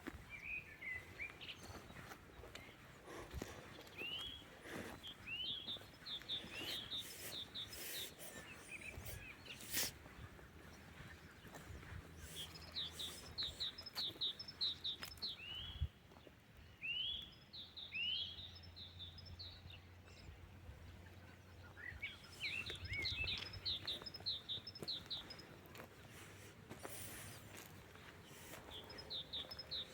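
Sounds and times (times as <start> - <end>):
songbird singing: 0.0 - 29.9.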